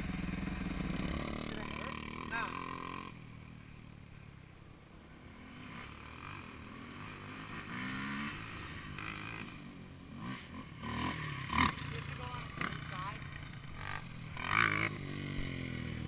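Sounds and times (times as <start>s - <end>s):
distant dirt bike revving: 0.0s - 4.4s, 5.0s - 16.0s
dirt bike engines idling: 0.0s - 16.0s.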